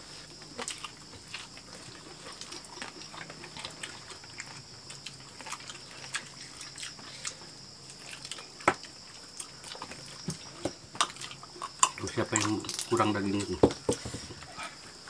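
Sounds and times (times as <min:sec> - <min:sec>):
people chewing: 0:00.0 - 0:15.0.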